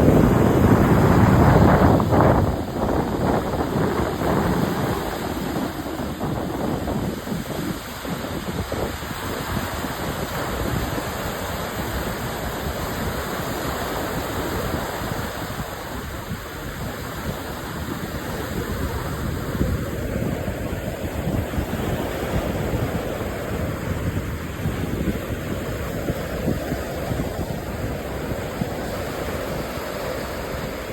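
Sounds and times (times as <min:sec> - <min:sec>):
surf washing on beach: 0:00.0 - 0:30.9
wind buffeting microphone: 0:00.0 - 0:30.9.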